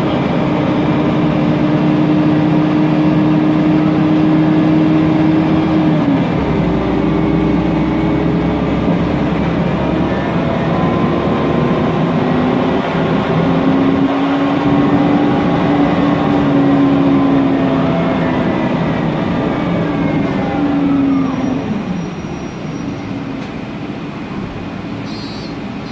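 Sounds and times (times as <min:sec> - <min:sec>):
loud fan noise: 0:00.0 - 0:22.1
bus gearbox and engine whine: 0:00.0 - 0:25.9.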